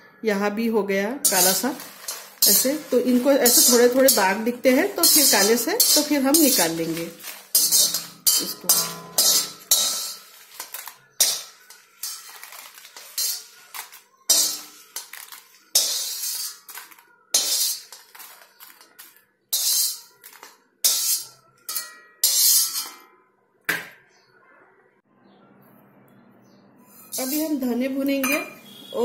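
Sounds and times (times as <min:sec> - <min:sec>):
metal spatula scraping iron pan: 0:01.2 - 0:23.0, 0:27.0 - 0:28.8.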